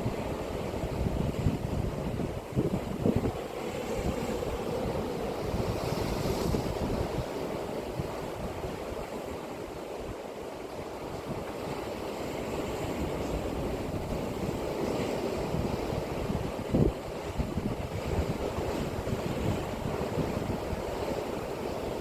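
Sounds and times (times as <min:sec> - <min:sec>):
wind buffeting microphone: 0:00.0 - 0:10.2, 0:10.8 - 0:22.0
sea waves breaking on shore: 0:00.0 - 0:22.0.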